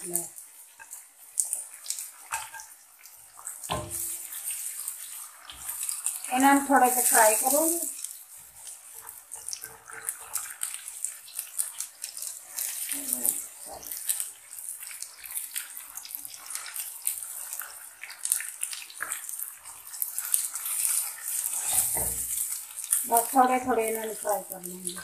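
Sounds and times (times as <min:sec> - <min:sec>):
spatula stirring in a wok: 0:00.0 - 0:25.0
vegetables sizzling in hot oil: 0:00.0 - 0:25.0.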